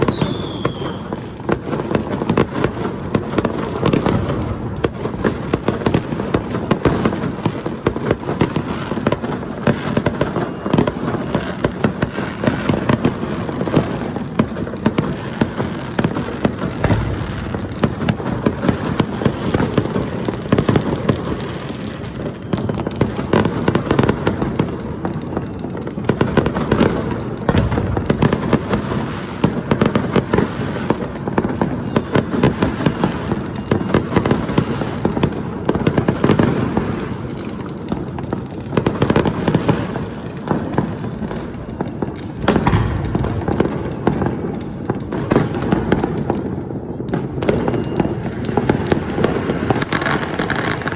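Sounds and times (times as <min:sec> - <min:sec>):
firecrackers and fireworks banging: 0:00.0 - 0:50.9.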